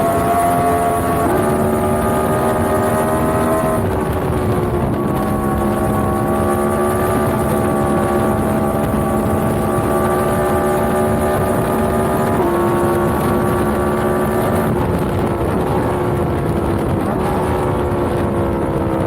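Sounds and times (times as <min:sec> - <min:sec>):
motorcycle engine cruising: 0:00.0 - 0:19.0
wind rush on microphone: 0:00.0 - 0:19.0.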